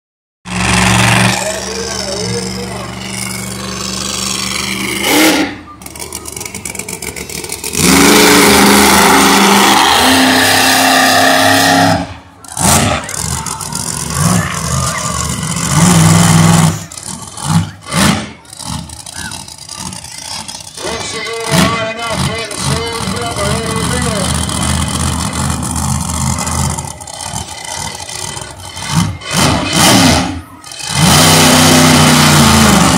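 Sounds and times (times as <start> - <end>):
monster truck engines revving: 0.4 - 32.9.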